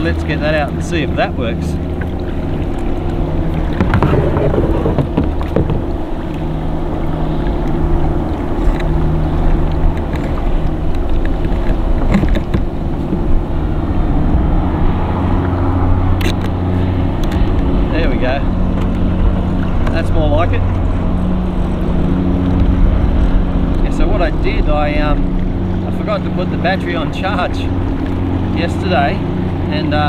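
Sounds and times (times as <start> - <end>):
water noise: 0.0 - 30.0
wind: 0.0 - 30.0.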